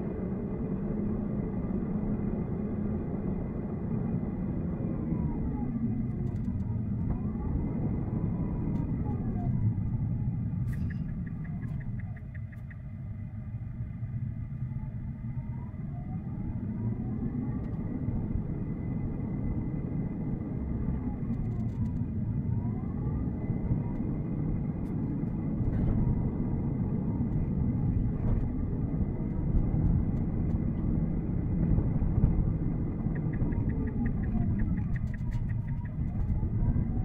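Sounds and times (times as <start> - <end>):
faint whines: 0.0 - 37.0
road and tyre rumble in car cabin: 0.0 - 37.0.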